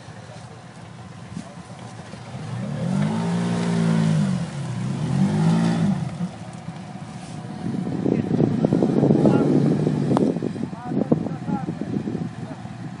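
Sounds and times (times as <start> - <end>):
atv engine revving: 0.9 - 13.0.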